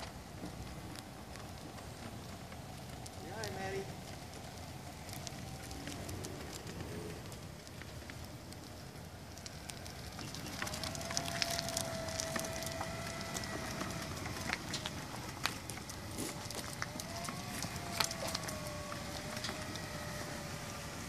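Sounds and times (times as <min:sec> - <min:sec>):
electric motors whining: 0:00.0 - 0:21.0
tyres crackling on asphalt: 0:00.0 - 0:21.0.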